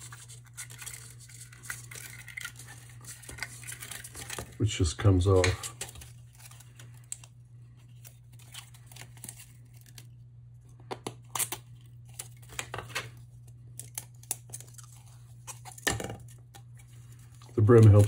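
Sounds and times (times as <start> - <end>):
plastic strips tearing: 0.0 - 10.2, 10.8 - 18.0
low steady hum: 0.0 - 18.0.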